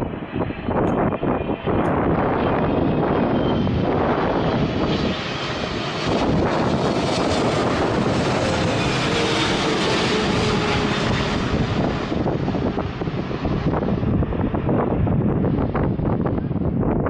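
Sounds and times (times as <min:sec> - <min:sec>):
jet engines passing: 0:00.0 - 0:17.0
wind buffeting microphone: 0:00.0 - 0:17.0.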